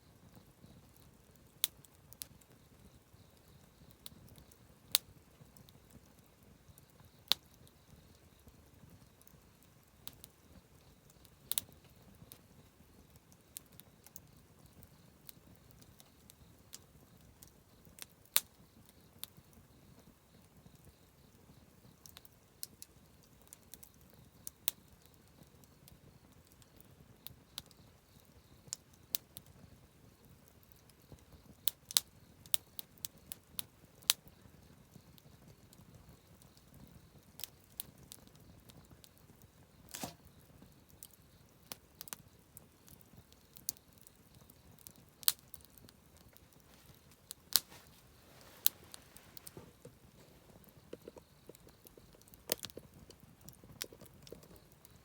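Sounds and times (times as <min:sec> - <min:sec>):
campfire crackling: 0:00.1 - 0:55.0.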